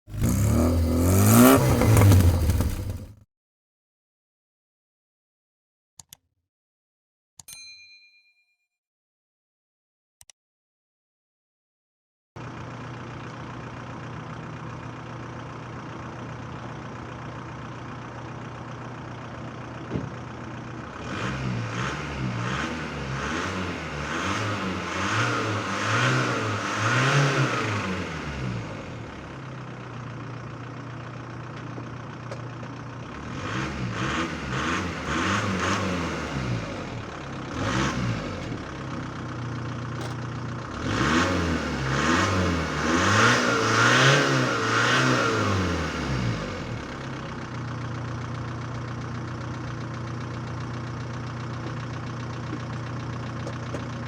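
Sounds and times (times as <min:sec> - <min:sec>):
diesel engine idling and revving: 0:00.0 - 0:03.2, 0:12.4 - 0:54.0.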